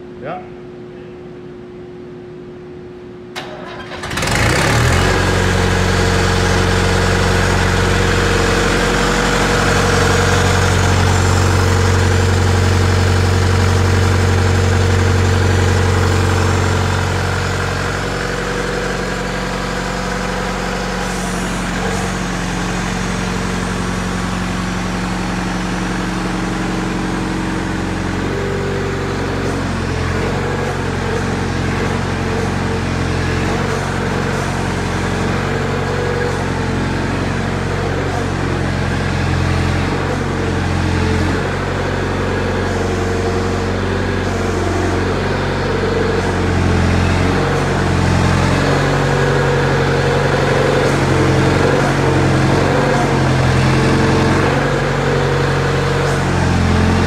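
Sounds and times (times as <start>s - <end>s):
diesel engine idling: 3.4s - 57.0s.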